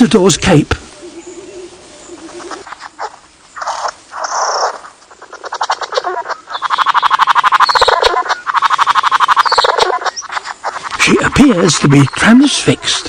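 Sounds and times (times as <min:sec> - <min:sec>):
harsh rasping bird calls: 0:00.0 - 0:13.0.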